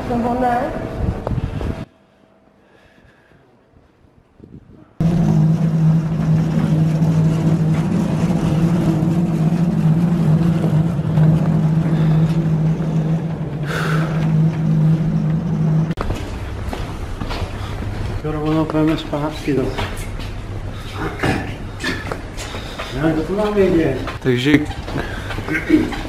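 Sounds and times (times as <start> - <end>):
steady engine drone: 5.0 - 26.0.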